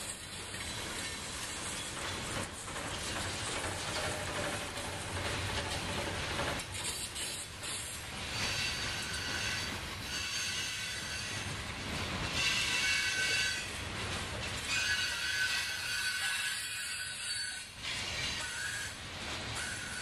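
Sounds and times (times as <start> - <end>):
freight train rumbling past: 0.0 - 20.0
wheels squealing on rails: 0.0 - 20.0.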